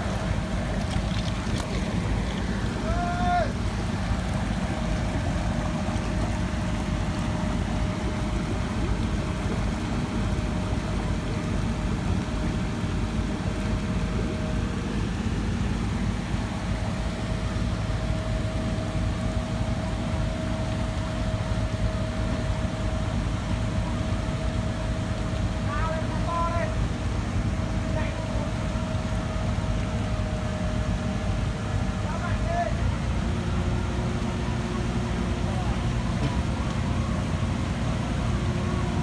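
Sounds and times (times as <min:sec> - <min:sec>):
diesel machinery engine drone: 0:00.0 - 0:39.0
faint steady whine: 0:00.0 - 0:39.0.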